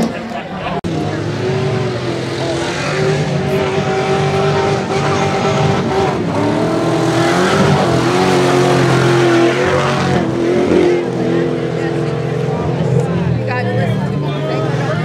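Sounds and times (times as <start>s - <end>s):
tires churning dirt: 0.0s - 15.0s
truck engine revving hard: 0.0s - 15.0s.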